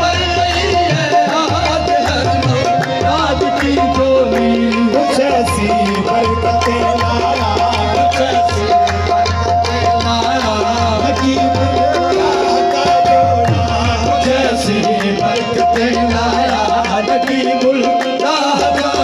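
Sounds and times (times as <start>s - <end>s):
fast hand-drum beats: 0.0s - 19.0s.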